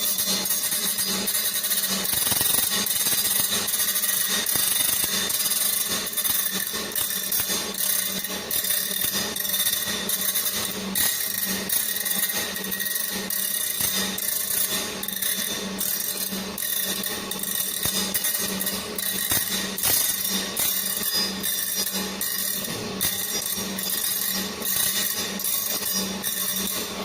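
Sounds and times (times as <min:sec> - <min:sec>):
grinding wheel on saw blade: 0:00.0 - 0:27.0.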